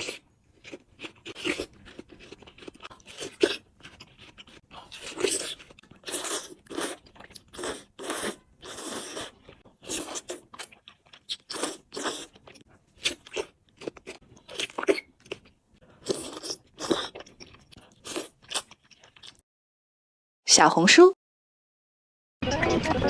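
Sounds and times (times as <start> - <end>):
person crunching and chewing food: 0.0 - 19.4.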